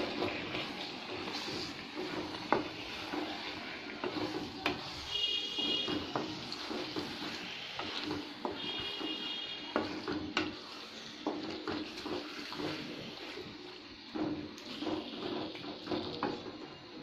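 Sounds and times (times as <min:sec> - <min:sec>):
chicken sizzling in oil: 0:00.0 - 0:17.0
wooden spatula scraping pot: 0:00.0 - 0:17.0.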